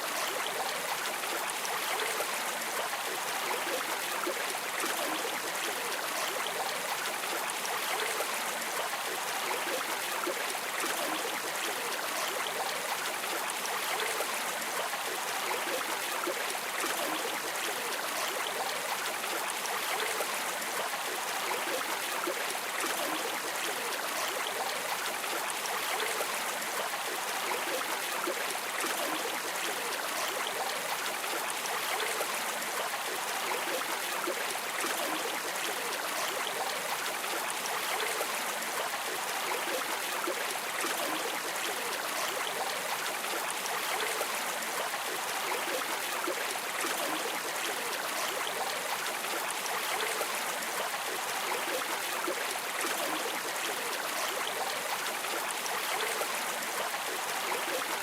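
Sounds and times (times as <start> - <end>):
river water babbling: 0.0 - 58.0.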